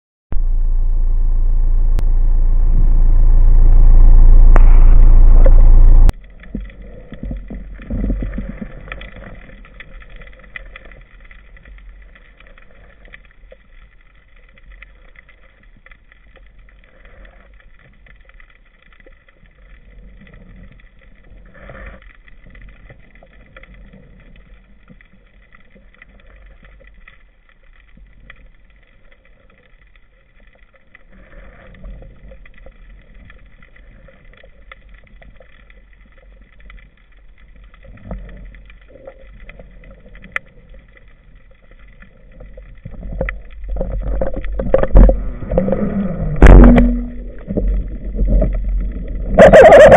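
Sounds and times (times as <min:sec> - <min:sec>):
underwater rumble: 0:00.3 - 0:49.9.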